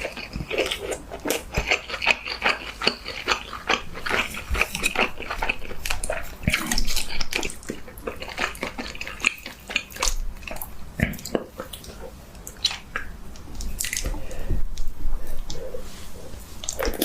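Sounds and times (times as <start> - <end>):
chewing with wet mouth clicks: 0.0 - 15.6, 16.6 - 17.0.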